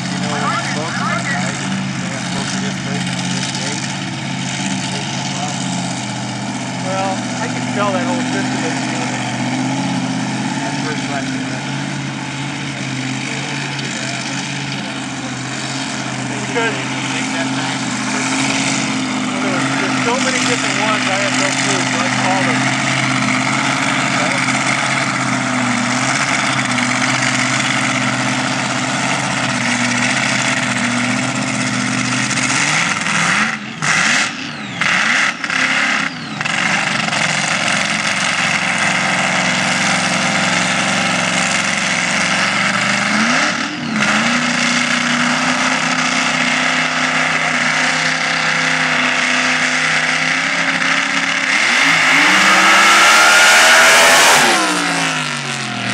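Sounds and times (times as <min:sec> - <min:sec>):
dragster engine idling and revving: 0:00.0 - 0:55.9.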